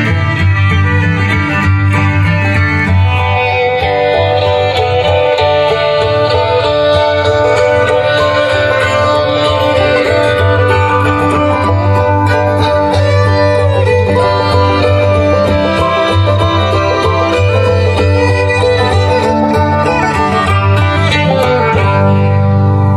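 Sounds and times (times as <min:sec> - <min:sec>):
loud rock music with guitar: 0:00.0 - 0:22.9.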